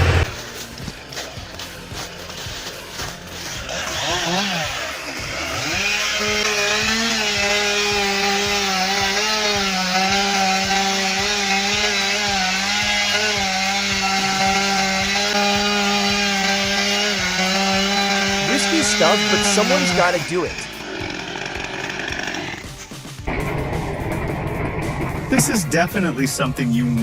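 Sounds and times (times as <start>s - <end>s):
chainsaw revving: 0.0s - 23.5s.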